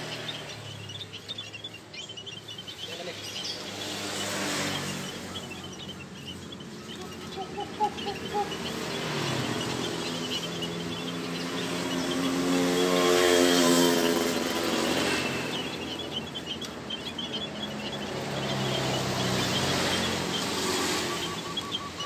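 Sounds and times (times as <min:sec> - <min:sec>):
birds chirping softly: 0:00.0 - 0:22.0
engine hum: 0:00.0 - 0:22.0
motorcycle engine passing: 0:00.0 - 0:22.0.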